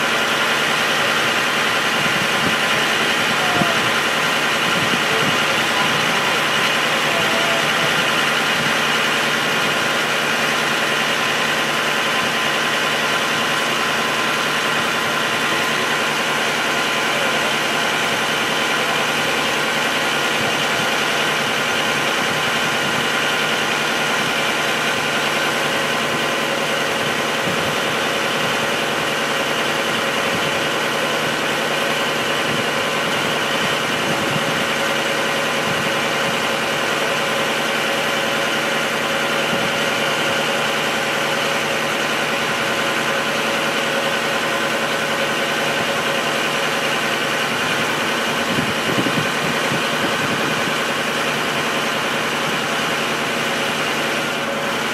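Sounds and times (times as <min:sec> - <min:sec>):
idling engine drone: 0:00.0 - 0:54.9.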